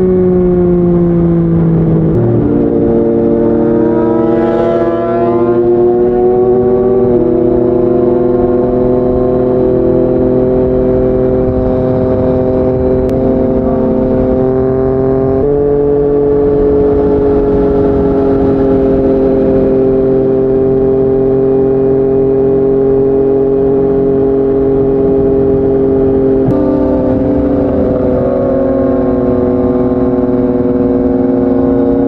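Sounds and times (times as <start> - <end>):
motorcycle engine at highway speed: 0.0 - 32.0.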